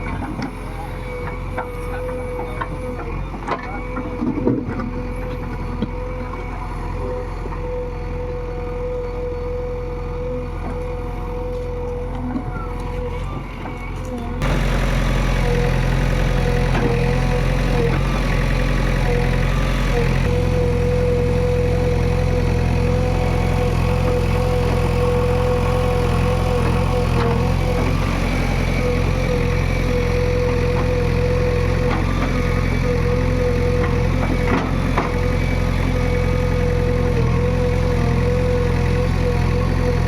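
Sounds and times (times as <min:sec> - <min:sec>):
excavator diesel engine running: 0:00.0 - 0:40.0
steady whining tone: 0:00.0 - 0:40.0.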